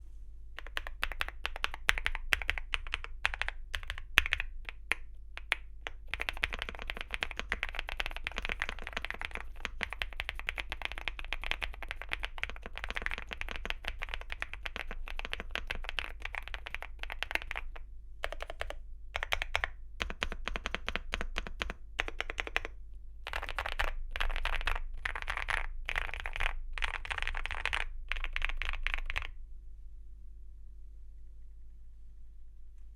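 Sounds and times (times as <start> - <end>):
faint steady hum: 0.0 - 32.9
typing on mechanical keyboard: 0.6 - 29.4.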